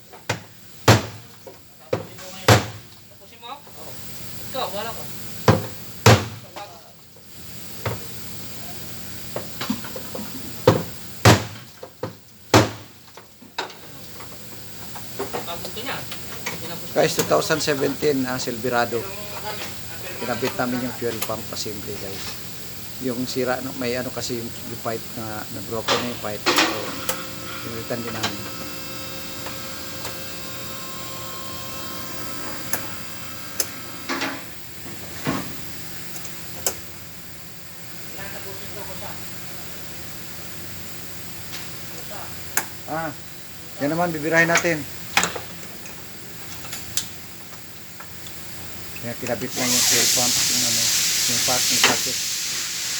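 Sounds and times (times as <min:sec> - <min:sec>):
steady background hum: 0:00.0 - 0:52.9.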